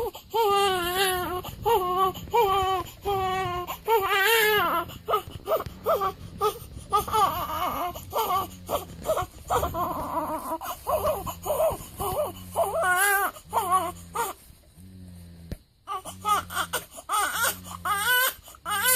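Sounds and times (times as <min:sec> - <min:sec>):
newborn baby crying: 0:00.0 - 0:14.4, 0:15.9 - 0:18.9.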